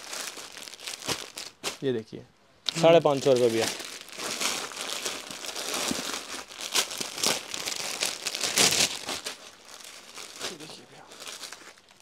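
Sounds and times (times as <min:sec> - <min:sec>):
plastic wrapping crinkling: 0:00.0 - 0:01.9, 0:02.7 - 0:12.0.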